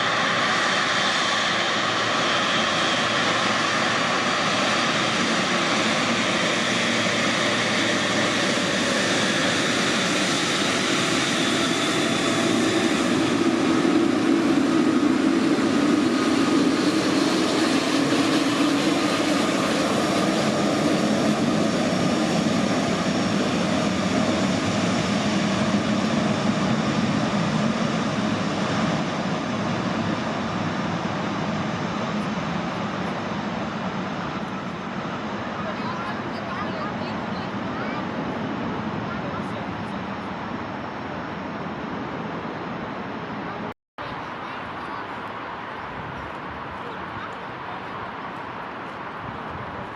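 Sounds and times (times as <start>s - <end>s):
airliner engines rumbling: 0.0s - 49.9s.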